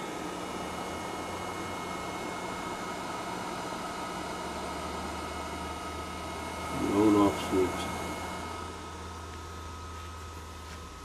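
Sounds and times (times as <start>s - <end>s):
cooling fans whirring: 0.0s - 11.0s.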